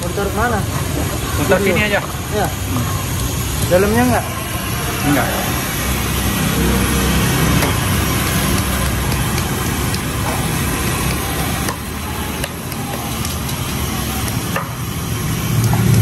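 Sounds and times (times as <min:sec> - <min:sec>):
food sizzling in oil: 0:00.0 - 0:16.0
gas burner burning: 0:00.0 - 0:16.0.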